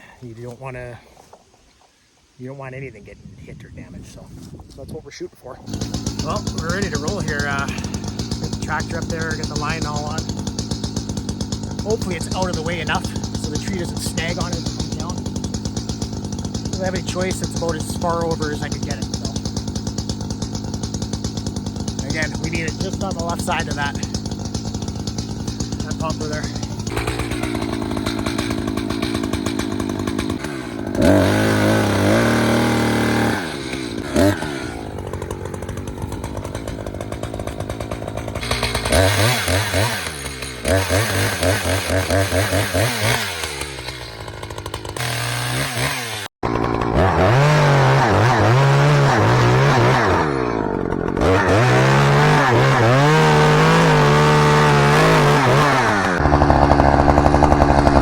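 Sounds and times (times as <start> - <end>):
chainsaw cutting wood: 5.6 - 58.0.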